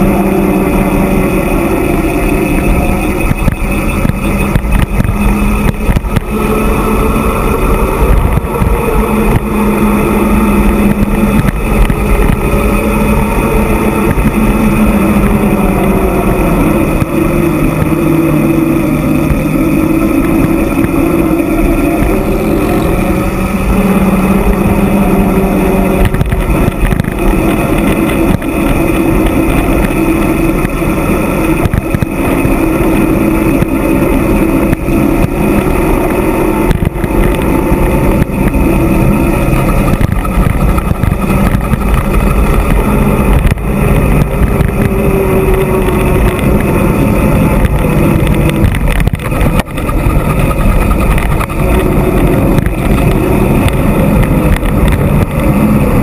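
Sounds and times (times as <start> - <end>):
bicycle tyre hum on asphalt: 0.0 - 56.0
wind rushing over microphone: 0.0 - 56.0.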